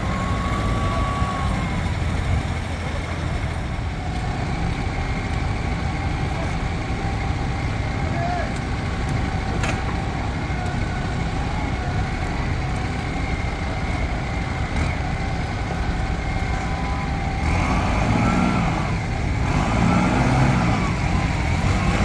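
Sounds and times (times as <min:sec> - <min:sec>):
large diesel engine running: 0:00.0 - 0:22.0.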